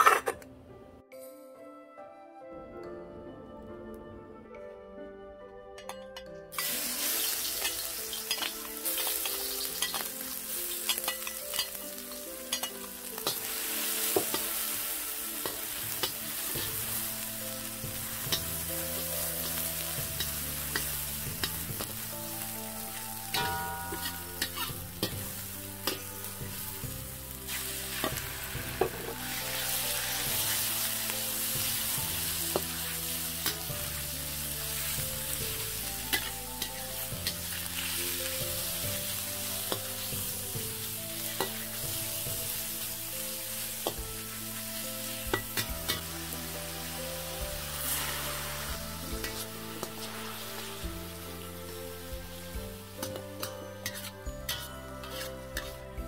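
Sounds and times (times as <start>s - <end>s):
metal spatula scraping wok: 5.8s - 51.3s, 52.9s - 55.9s
food sizzling in hot oil: 6.5s - 56.0s.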